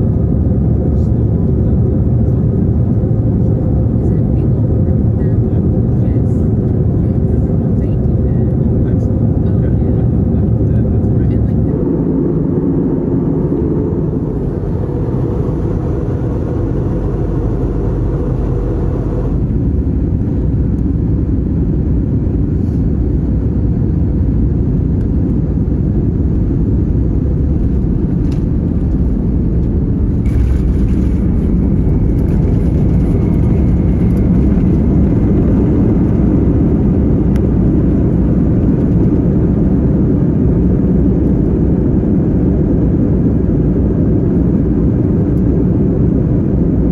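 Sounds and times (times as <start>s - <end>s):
jet engines and wheels rumbling: 0.0s - 46.9s.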